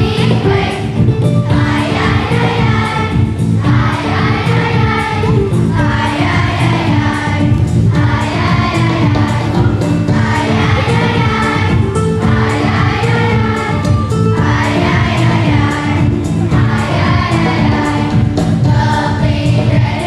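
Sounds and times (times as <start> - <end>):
children's choir singing: 0.0 - 20.0
musical accompaniment: 0.0 - 20.0.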